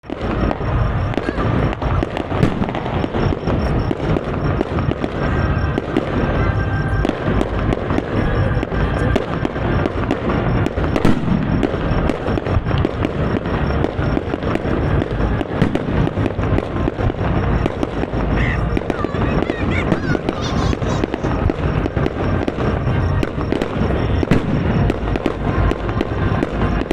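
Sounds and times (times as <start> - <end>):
rapid fireworks explosions: 0.0 - 26.9.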